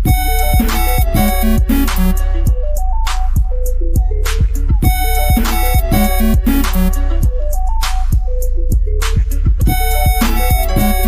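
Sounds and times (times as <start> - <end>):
electronic dance music: 0.0 - 8.4, 9.6 - 11.0.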